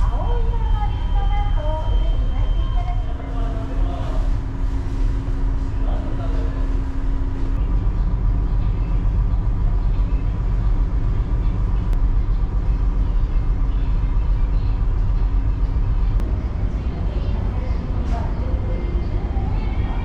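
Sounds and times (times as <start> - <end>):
faint steady hum: 0.0 - 20.0
ship engine rumble: 0.0 - 20.0.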